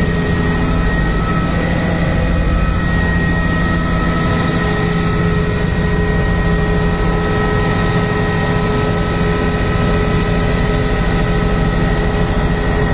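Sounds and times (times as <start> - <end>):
helicopter drone: 0.0 - 12.9.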